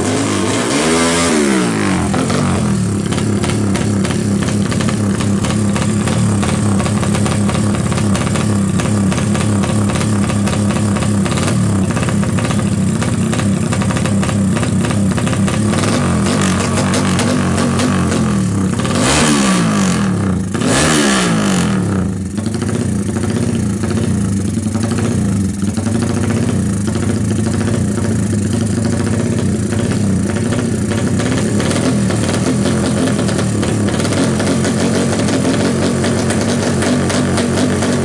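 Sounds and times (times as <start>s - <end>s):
motorcycle engine revving and idling: 0.0s - 38.0s.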